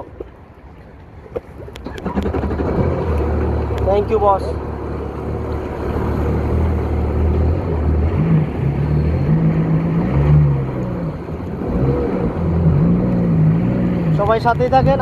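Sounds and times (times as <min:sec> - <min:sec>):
jet ski engine running: 0:01.4 - 0:15.0.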